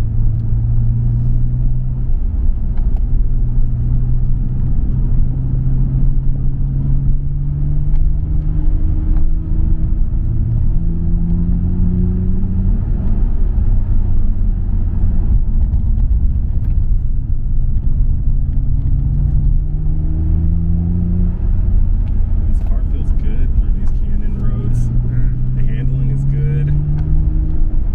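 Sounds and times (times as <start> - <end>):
car engine rumbling under load: 0.0 - 27.9.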